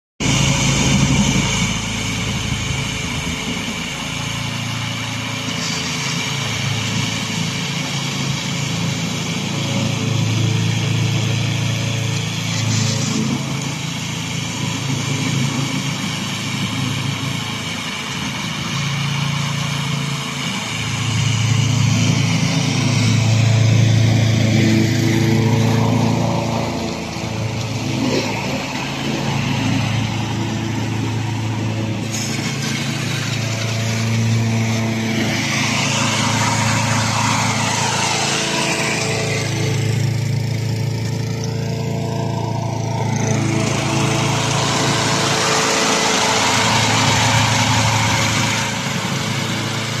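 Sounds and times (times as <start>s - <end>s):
mower engine running: 0.2s - 50.0s.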